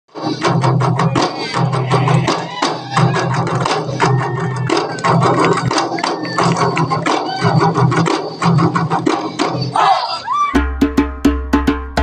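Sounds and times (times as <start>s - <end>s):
frame drums playing fast rhythm: 0.1s - 9.8s, 10.5s - 12.0s.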